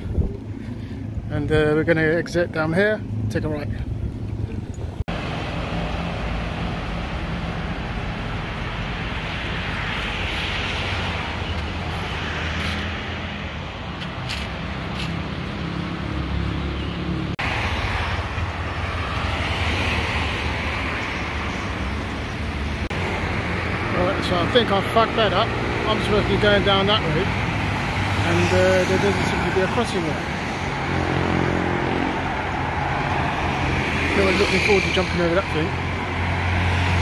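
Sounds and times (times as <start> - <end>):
cars and scooters passing: 0.0 - 37.0
steady traffic rumble: 0.0 - 37.0.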